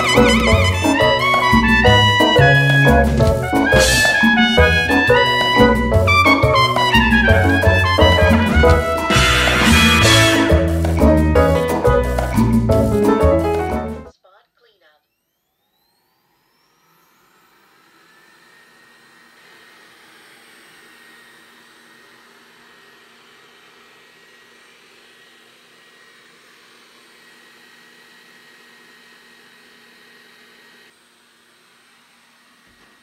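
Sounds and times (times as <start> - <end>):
robot vacuum fan whirring: 0.0 - 11.0, 15.0 - 33.0.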